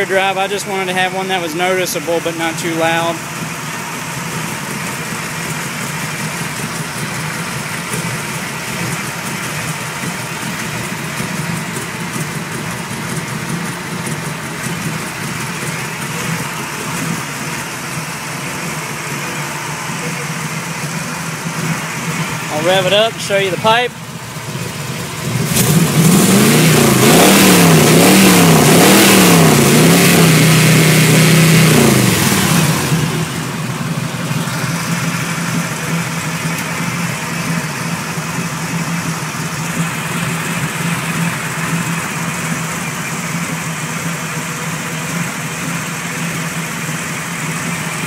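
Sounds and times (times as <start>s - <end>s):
car engine revving and idling: 0.0s - 48.0s.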